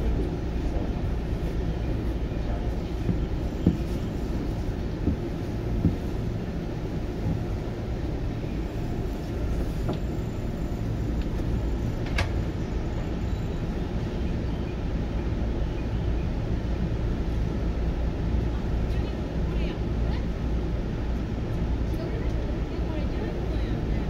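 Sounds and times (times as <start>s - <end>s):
train equipment hum: 0.0s - 24.0s.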